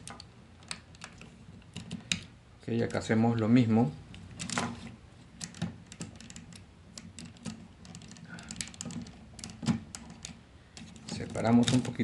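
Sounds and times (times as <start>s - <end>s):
hard plastic parts clicking: 0.0s - 3.0s, 4.4s - 12.0s.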